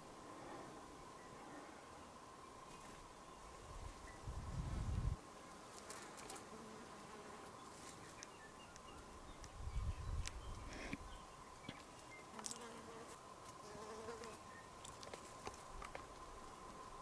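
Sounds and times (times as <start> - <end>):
faint insect buzzing: 0.2 - 17.0.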